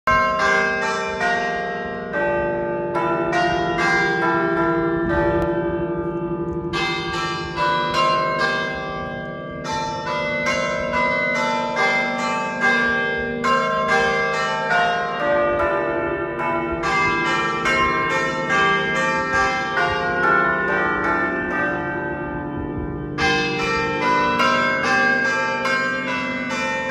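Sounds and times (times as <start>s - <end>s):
church bells ringing: 0.1s - 26.9s.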